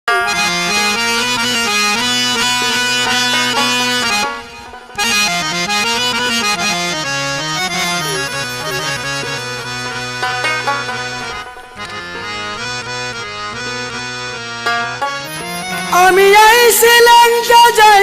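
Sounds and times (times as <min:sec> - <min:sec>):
accordion melody over bass notes: 0:00.1 - 0:18.0.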